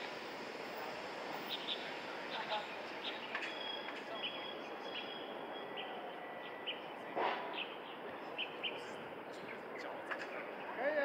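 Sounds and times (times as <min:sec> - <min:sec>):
birds chirping: 0:01.4 - 0:11.0.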